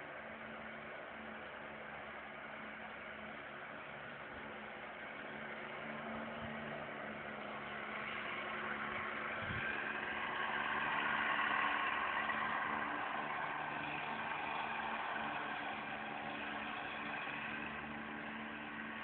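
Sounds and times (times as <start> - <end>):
construction machinery engine drone: 0.0 - 19.0.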